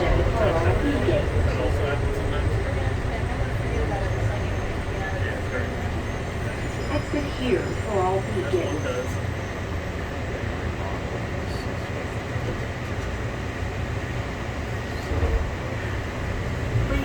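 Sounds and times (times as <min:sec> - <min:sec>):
train car rumble and hum: 0:00.0 - 0:17.0.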